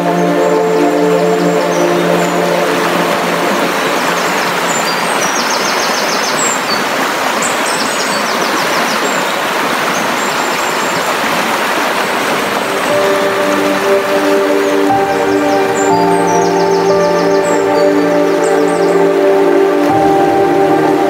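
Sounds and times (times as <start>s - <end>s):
small birds chirping: 0.0s - 11.3s, 12.3s - 20.3s
stream water rushing: 0.0s - 21.0s.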